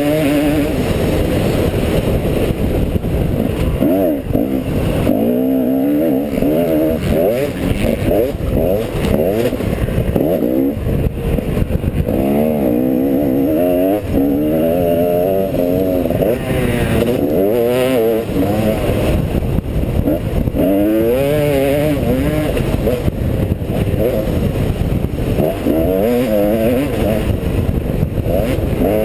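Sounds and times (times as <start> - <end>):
motocross bike engine revving: 0.0 - 29.0
wind rush: 0.0 - 29.0.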